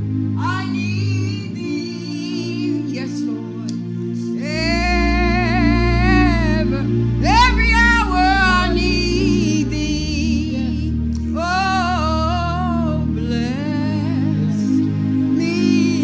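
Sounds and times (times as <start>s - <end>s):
sustained accompanying chords: 0.0s - 16.0s
solo gospel singing: 0.4s - 16.0s.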